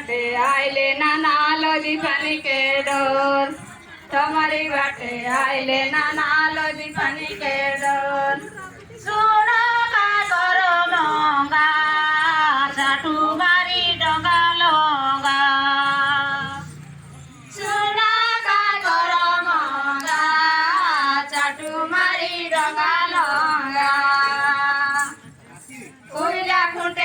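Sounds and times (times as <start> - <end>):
women singing without instruments: 0.0 - 16.7, 17.5 - 25.2, 26.1 - 27.0.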